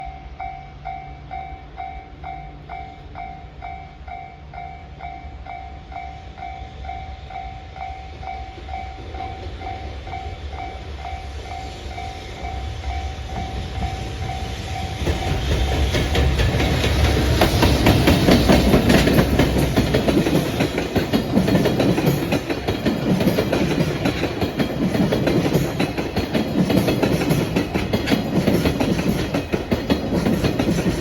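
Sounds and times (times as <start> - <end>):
freight train rumble and clatter: 0.0 - 31.0.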